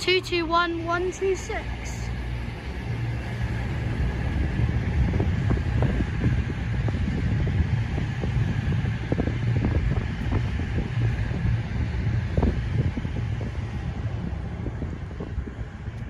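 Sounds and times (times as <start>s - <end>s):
diesel train rumbling: 0.0s - 16.0s.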